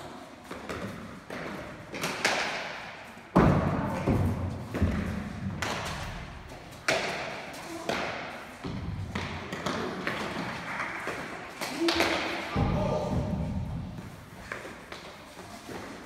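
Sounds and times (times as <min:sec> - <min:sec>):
ball thuds echoing in hall: 0:00.0 - 0:16.0.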